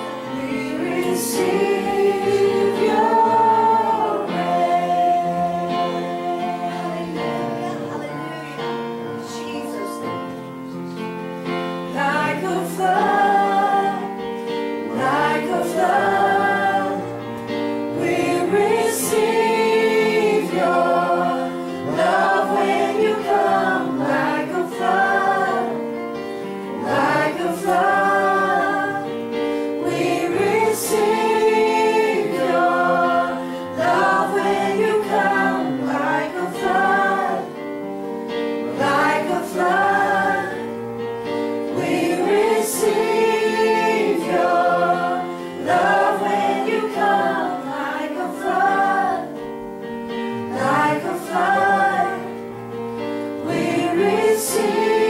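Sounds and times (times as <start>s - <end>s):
group singing gospel song: 0.0s - 55.0s.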